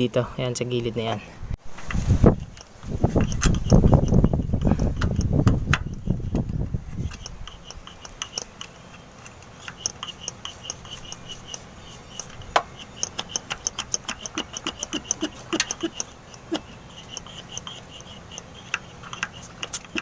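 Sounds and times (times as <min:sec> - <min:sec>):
rustle: 0:01.1 - 0:20.0
hand pump light clicks: 0:02.5 - 0:20.0.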